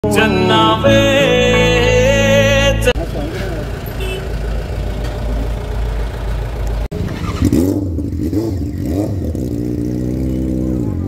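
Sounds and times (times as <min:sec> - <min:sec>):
vehicle engine running: 0:01.5 - 0:11.0.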